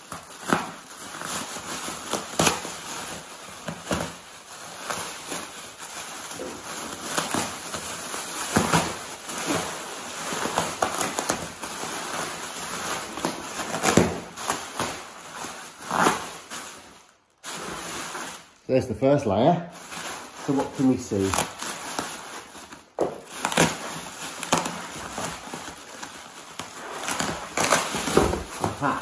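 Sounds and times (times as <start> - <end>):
bubble wrap crinkling and crackling: 0.0 - 29.0.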